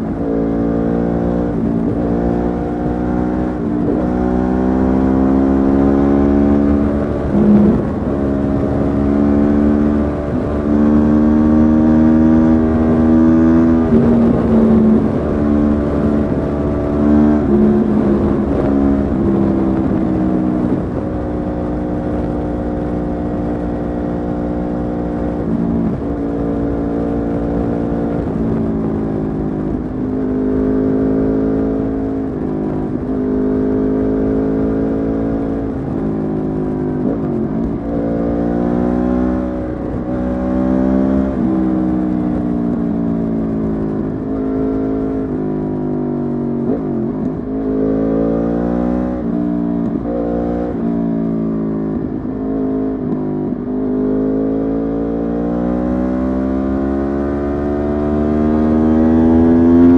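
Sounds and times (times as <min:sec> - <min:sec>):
motorcycle engine through gears: 0:00.0 - 0:59.9.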